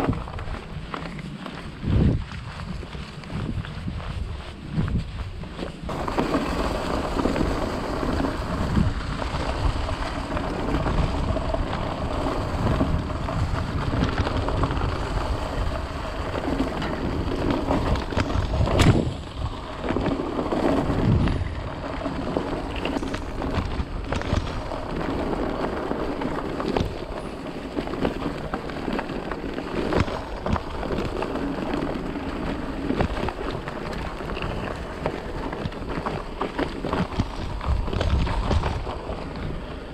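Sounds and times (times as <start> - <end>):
bike rattling over bumps: 0.0 - 39.9
bike tyres rolling over dry leaves: 0.0 - 39.9
wind buffeting microphone: 0.0 - 39.9.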